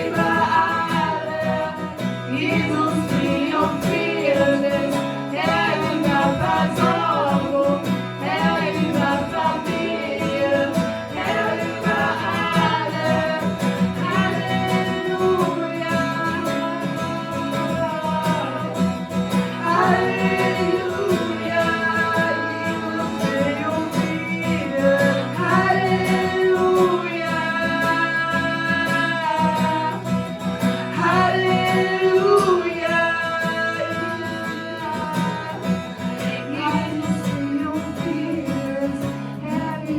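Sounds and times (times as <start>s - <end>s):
guitar: 0.0s - 39.9s
voices singing: 0.0s - 39.9s.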